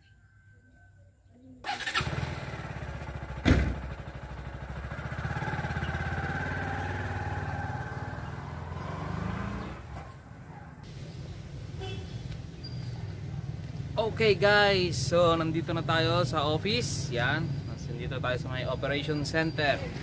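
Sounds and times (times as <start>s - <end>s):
motorcycle engine: 1.7s - 18.2s.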